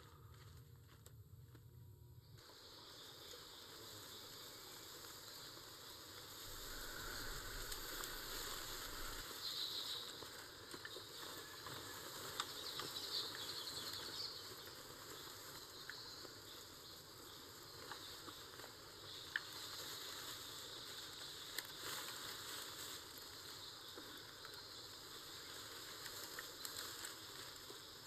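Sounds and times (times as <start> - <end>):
faint jungle ambience: 0.0 - 28.0
soft rustles: 3.2 - 28.0.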